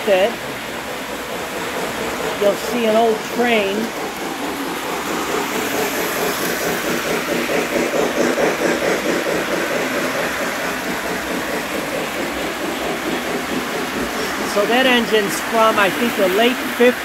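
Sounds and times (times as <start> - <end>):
model locomotive clattering: 0.0 - 17.0
model trains rumbling on track: 0.0 - 17.0.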